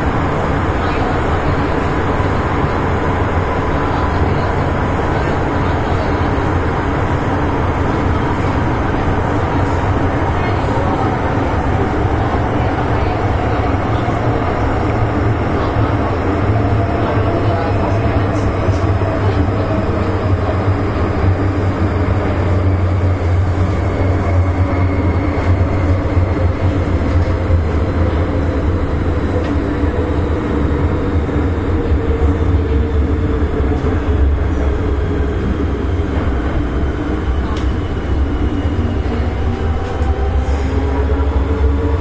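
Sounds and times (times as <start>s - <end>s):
subway wheels rumbling: 0.0s - 42.0s.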